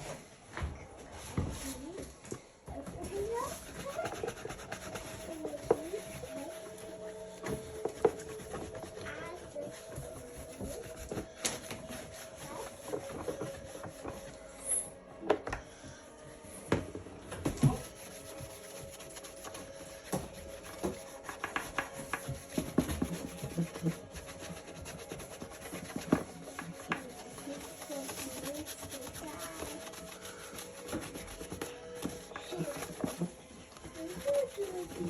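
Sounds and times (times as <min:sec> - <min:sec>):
scrubbing plastic by hand: 0:03.1 - 0:14.4, 0:17.5 - 0:35.0.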